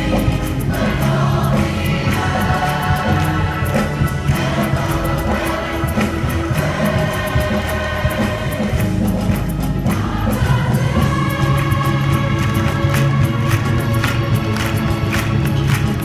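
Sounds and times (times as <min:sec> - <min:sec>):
children's choir singing: 0:00.0 - 0:16.0
musical accompaniment with steady beat: 0:00.0 - 0:16.0.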